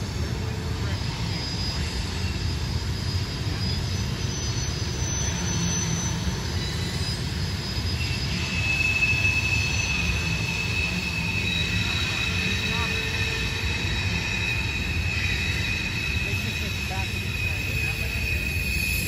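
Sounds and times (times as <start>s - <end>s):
distant freight train rumble: 0.0s - 19.0s
faint high squeal: 0.0s - 19.0s.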